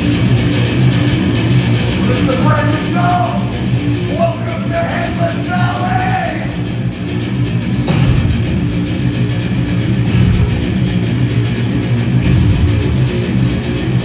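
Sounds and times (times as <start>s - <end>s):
heavy metal band playing live: 0.0s - 14.0s.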